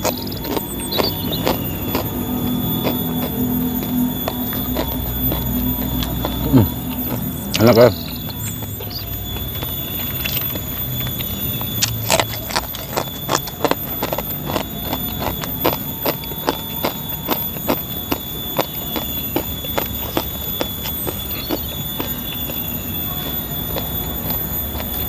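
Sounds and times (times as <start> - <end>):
crunchy food chewing: 0.0 - 25.0
steady high-pitched tone: 0.0 - 25.0.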